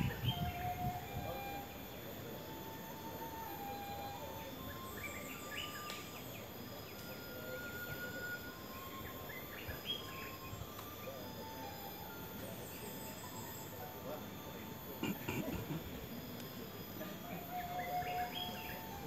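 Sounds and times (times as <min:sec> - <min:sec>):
birds chirping and whistling: 0:00.0 - 0:13.8, 0:17.2 - 0:19.0
insect drone: 0:00.0 - 0:19.0.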